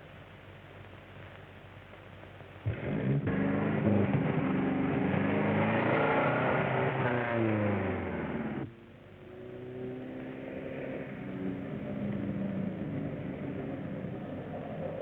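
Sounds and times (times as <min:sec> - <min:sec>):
quieter steady engine: 0:00.0 - 0:15.0.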